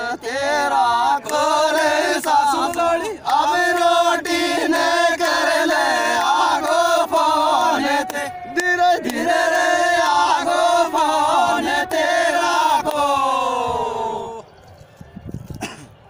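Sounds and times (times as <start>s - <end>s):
men singing together: 0.0s - 14.4s.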